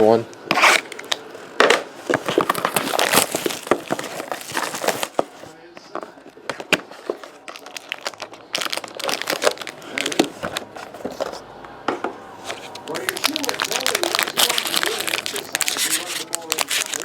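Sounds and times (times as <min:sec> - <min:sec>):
plastic wrapping crinkling: 0:00.6 - 0:11.4, 0:12.4 - 0:17.0.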